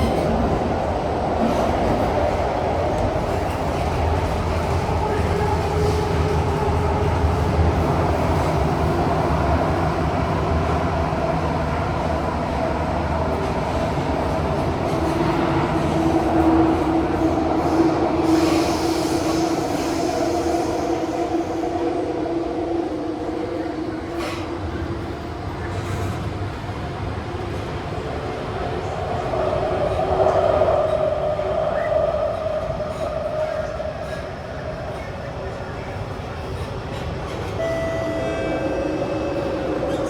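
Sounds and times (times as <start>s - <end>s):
metro train rolling noise: 0.0s - 40.0s.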